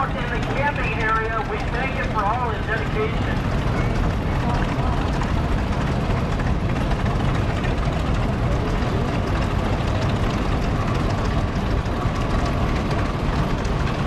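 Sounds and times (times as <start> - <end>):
tractor engines running: 0.0 - 14.0.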